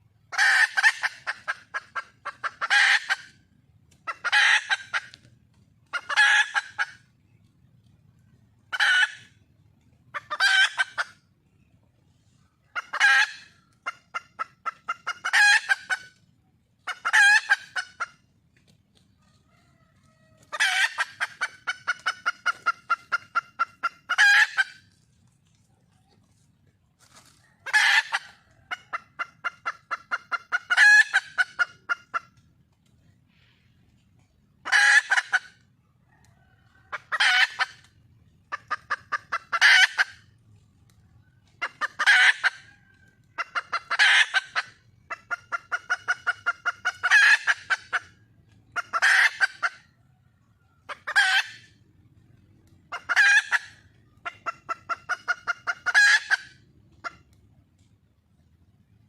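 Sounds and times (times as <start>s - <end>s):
hen clucking: 0.0s - 59.0s.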